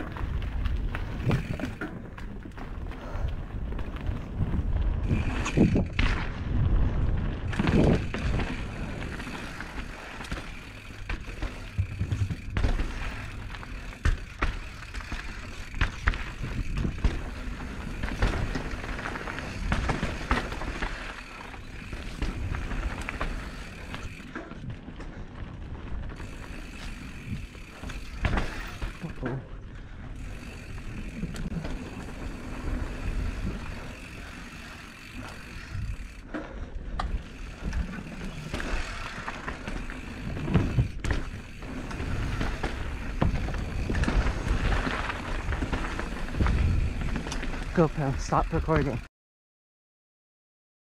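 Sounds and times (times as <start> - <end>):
bike knocks and rattles: 0.0 - 29.6, 30.2 - 47.8
tyres rolling over dirt: 0.0 - 49.0.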